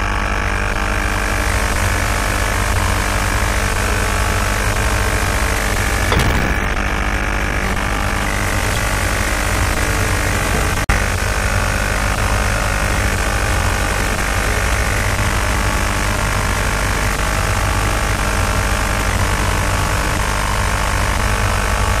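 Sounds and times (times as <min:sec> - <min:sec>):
humming tones: 0:00.5 - 0:22.0.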